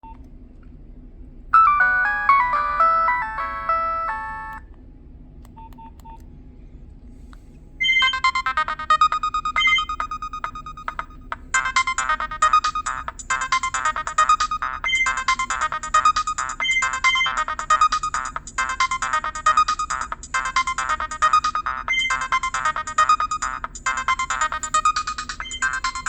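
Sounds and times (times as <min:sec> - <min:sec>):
electronic phone ringtone: 0:01.6 - 0:04.6, 0:07.8 - 0:26.0
fast ringtone with repeated notes: 0:01.6 - 0:04.6, 0:07.8 - 0:26.0.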